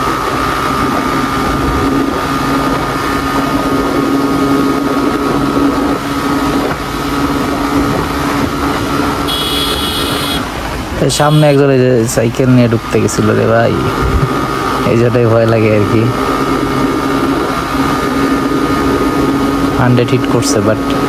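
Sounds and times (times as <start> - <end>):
motorcycle engine droning: 0.0 - 21.0
wind rushing over microphone: 0.0 - 21.0.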